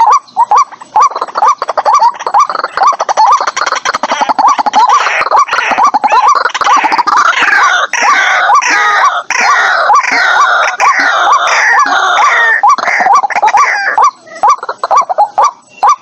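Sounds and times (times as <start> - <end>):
raucous chattering: 0.0 - 16.0
waterhen kwok calls: 0.0 - 16.0.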